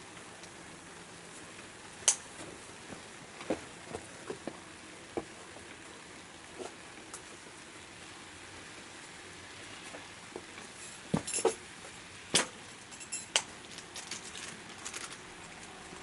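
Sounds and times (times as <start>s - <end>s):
faint steady hiss: 0.0s - 16.0s
wood fire crackling: 0.0s - 16.0s.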